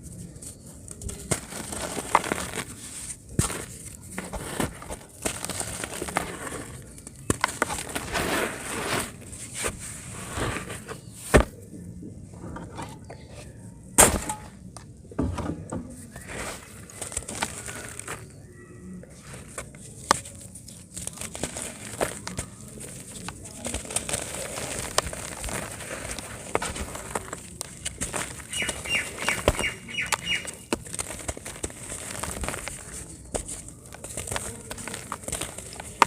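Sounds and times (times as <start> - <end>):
cement chunks crumbling: 0.4 - 11.6, 14.0 - 18.4, 19.2 - 36.0.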